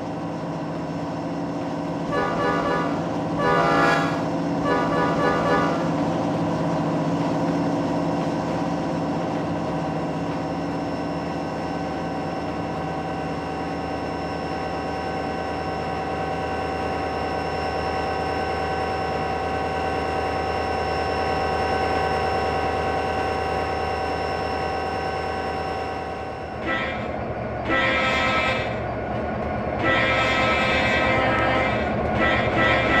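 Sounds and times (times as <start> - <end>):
diesel locomotive running: 0.0 - 33.0.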